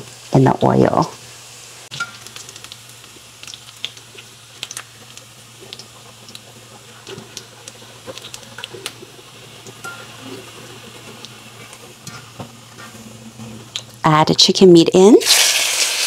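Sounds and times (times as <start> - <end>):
hot oil sizzling in a pan: 0.0 - 16.0
oil crackles and pops: 1.0 - 14.0, 15.2 - 16.0.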